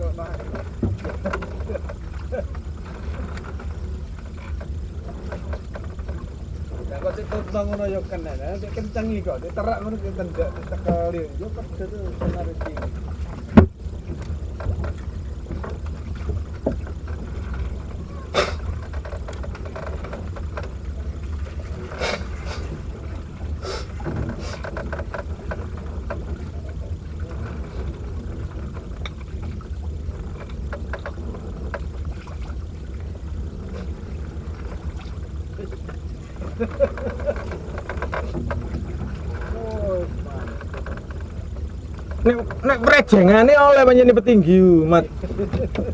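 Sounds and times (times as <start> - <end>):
boat engine low rumble: 0.0 - 45.9
knocks and clicks on boat: 0.0 - 45.9.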